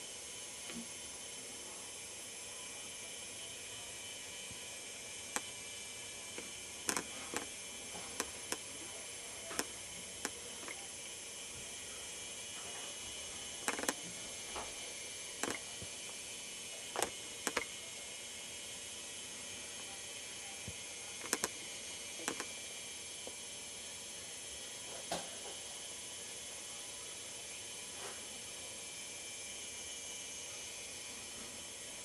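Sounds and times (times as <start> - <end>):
camcorder hiss and hum: 0.0 - 32.0.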